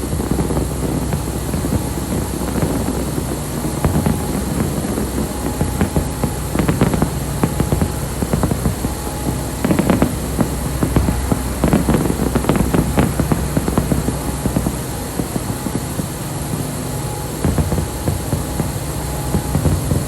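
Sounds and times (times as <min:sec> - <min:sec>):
fireworks popping and crackling: 0:00.0 - 0:20.0
steady low hum: 0:00.0 - 0:20.0.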